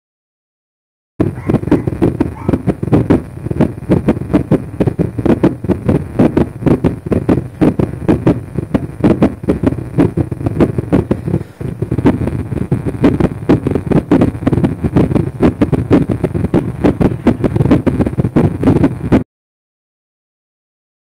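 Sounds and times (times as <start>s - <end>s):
chest and contact rumble: 1.2s - 19.2s
dog heartbeat thumps: 1.2s - 19.2s.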